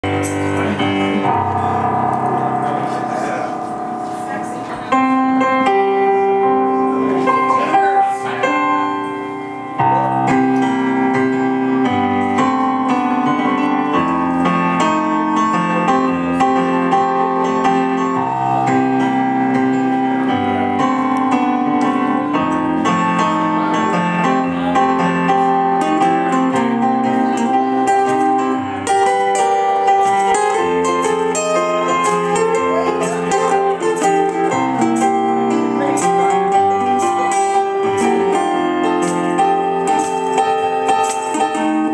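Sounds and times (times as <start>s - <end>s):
acoustic guitar strumming: 0.0s - 41.9s
electric piano chords: 0.0s - 41.9s.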